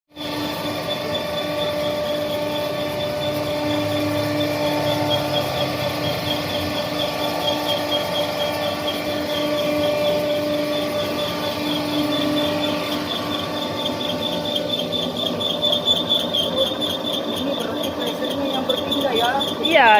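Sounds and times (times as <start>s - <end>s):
boring machine whining: 0.1s - 19.9s.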